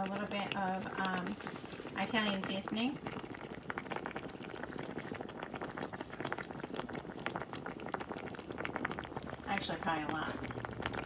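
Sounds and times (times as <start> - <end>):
sauce boiling with bubbles popping: 0.0 - 11.0.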